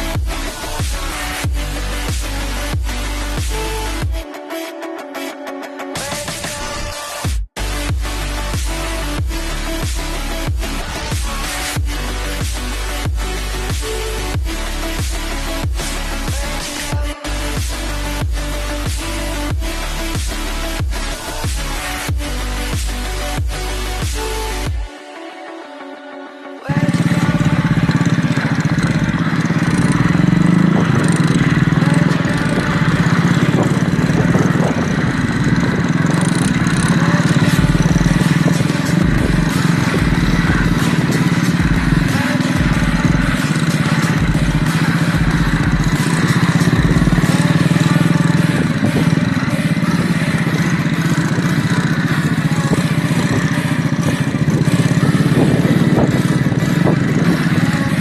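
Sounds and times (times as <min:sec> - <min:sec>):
motorcycle engine running: 0:00.0 - 0:04.4, 0:05.9 - 0:24.9, 0:26.6 - 0:58.0.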